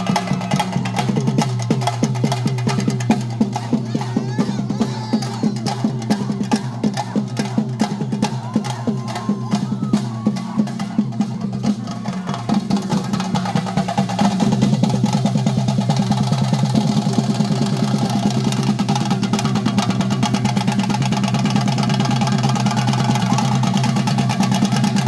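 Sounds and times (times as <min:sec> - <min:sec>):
drums beaten fast: 0:00.0 - 0:25.0.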